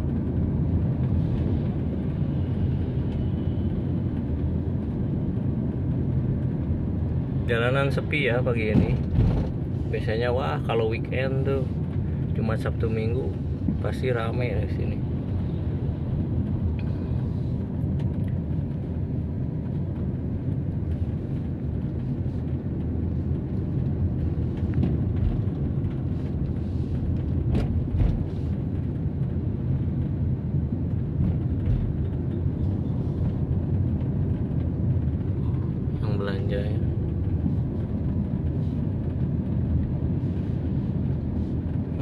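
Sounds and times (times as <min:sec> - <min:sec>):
car engine and tyre noise: 0:00.0 - 0:42.0.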